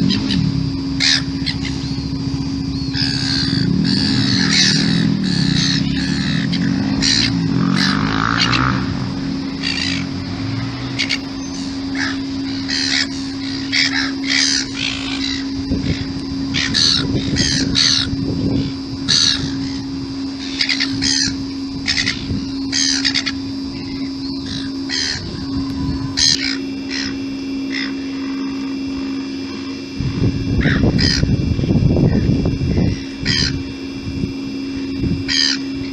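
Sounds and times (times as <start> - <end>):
gulls squawking: 0.0 - 31.4, 32.0 - 33.8, 34.6 - 35.9
steady low hum: 0.0 - 35.9.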